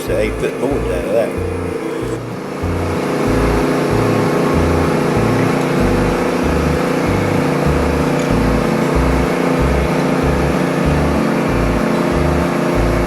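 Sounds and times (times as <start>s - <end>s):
high rushing noise: 0.0s - 13.0s
sawmill engine running: 0.0s - 13.0s.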